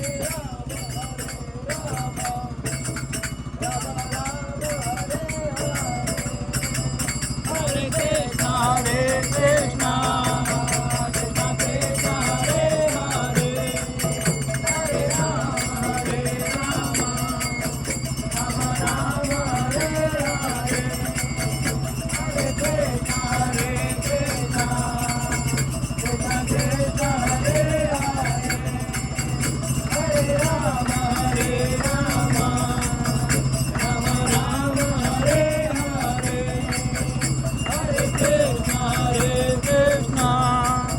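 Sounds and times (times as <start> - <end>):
jingling percussion: 0.0 - 40.9
voices singing devotional music: 0.0 - 40.9.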